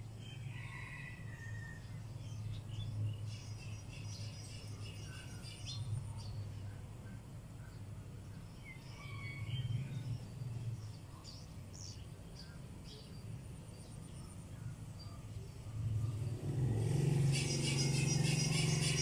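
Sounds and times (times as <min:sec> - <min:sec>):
low engine rumble: 0:01.2 - 0:19.0.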